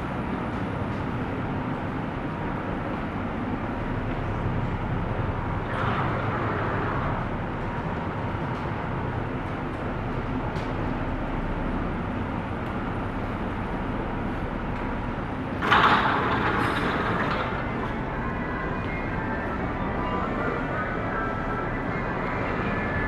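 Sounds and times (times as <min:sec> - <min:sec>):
ferry engines rumbling: 0:00.0 - 0:23.0
rush of noise: 0:00.0 - 0:23.0.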